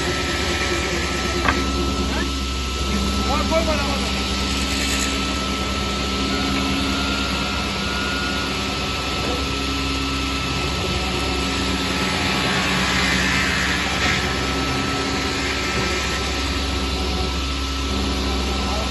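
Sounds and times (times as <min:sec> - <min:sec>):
saw machine hum with whine: 0:00.0 - 0:18.9.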